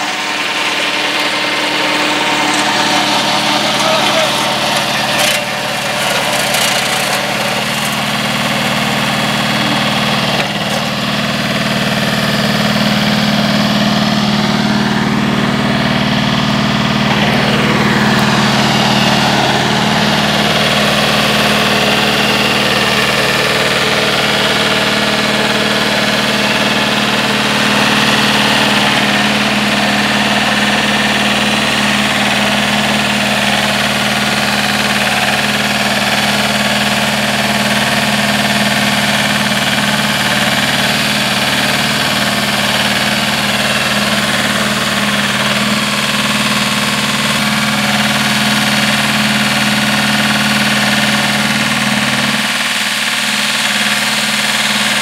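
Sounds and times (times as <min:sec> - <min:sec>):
flail mower cutting brush: 0:00.0 - 0:55.0
tractor diesel engine running: 0:00.0 - 0:55.0.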